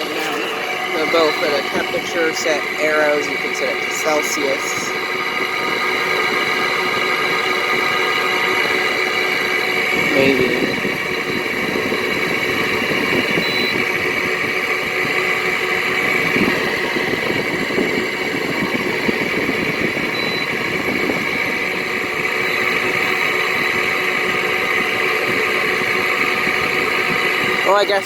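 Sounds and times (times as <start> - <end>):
air conditioner whirring: 0.0 - 28.0.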